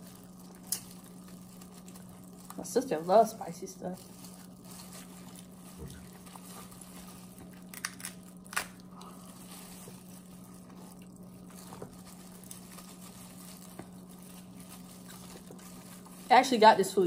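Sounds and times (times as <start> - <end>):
chewing: 0.0 - 2.6, 4.0 - 16.3
steady low hum: 0.0 - 17.0
crab shells cracking: 0.1 - 2.6, 4.1 - 16.1.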